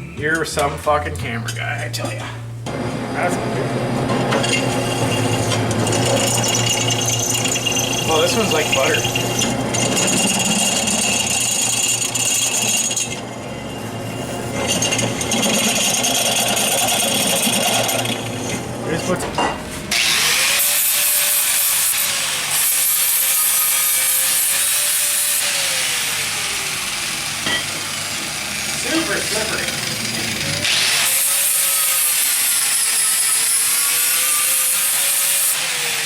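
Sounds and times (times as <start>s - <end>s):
electric drill boring through steel: 4.3s - 19.2s, 19.9s - 36.0s.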